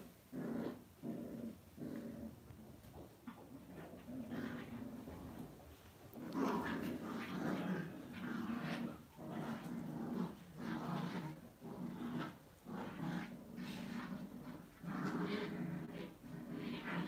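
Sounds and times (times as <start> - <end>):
dog growling low: 0.0 - 17.0.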